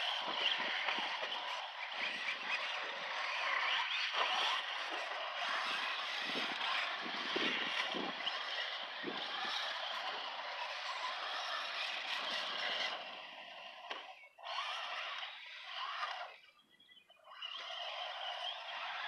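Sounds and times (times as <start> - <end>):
rc truck driving on dirt: 0.0 - 19.0.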